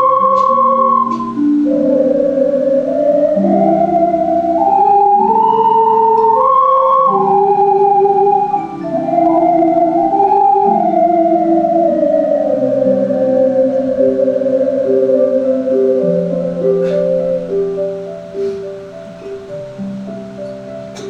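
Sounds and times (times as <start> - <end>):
ocarinas playing slow melody: 0.0 - 21.0.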